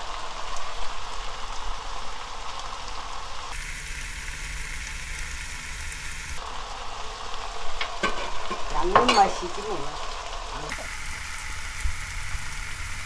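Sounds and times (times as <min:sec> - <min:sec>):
fern sizzling in a pan: 0:00.0 - 0:13.0.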